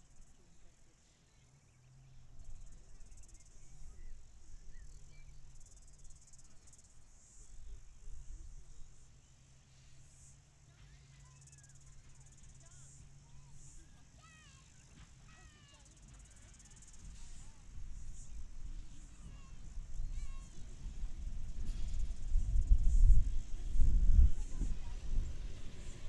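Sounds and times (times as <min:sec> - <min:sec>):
insects chirring: 0:01.6 - 0:26.0.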